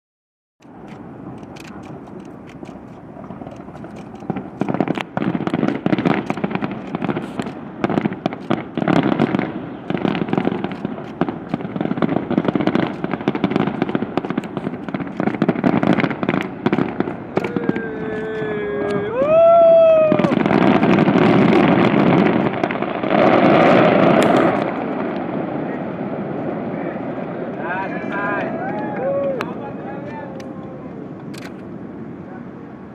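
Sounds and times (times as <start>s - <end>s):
fireworks cracking and popping: 0.6s - 32.2s.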